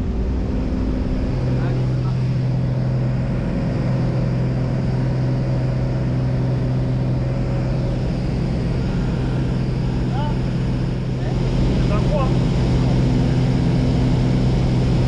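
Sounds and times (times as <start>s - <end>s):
light aircraft engine drone: 0.0s - 15.0s.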